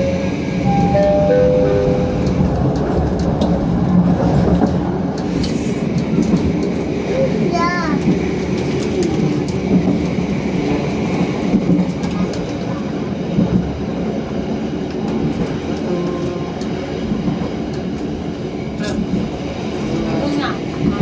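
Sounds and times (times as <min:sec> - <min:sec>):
train wheels on rail: 0:00.0 - 0:21.0.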